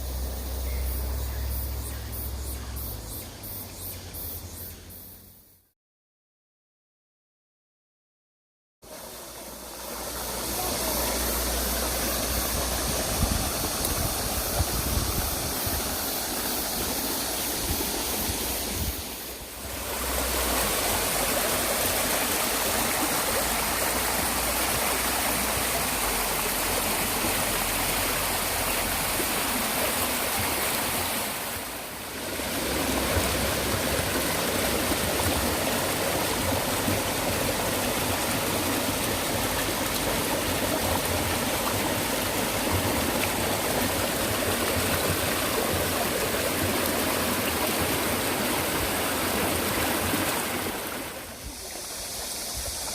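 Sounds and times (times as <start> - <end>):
stream flowing over rock: 8.8 - 52.9.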